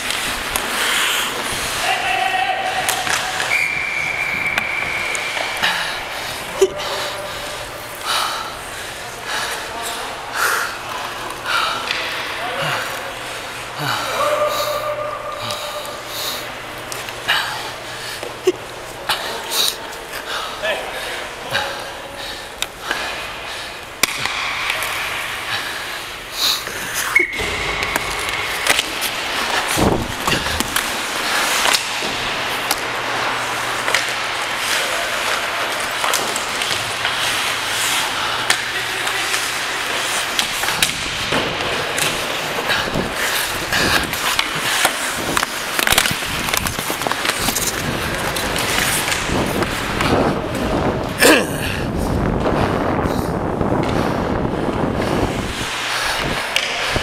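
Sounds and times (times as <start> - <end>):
skates scraping on ice: 0.0 - 14.8, 20.9 - 57.0
hockey sticks and puck clacking: 0.0 - 51.4, 53.7 - 57.0.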